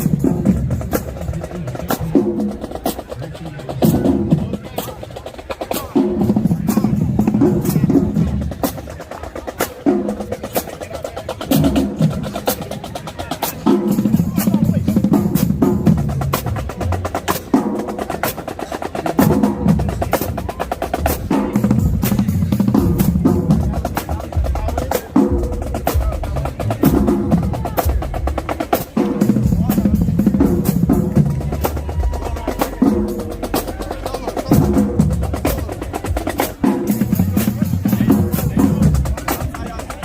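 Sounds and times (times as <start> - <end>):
low drums: 0.0 - 40.0.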